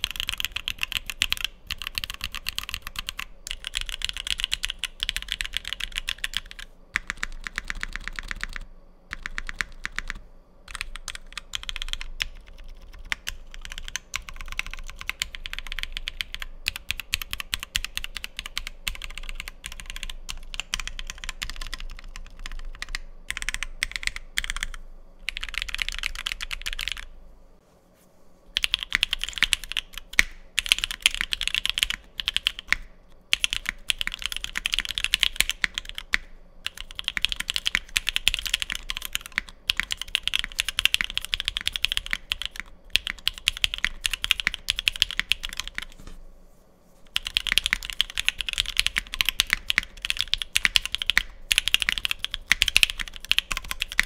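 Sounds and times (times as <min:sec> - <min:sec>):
mechanical keyboard typing: 0:00.0 - 0:27.1, 0:28.6 - 0:46.0, 0:47.1 - 0:54.0.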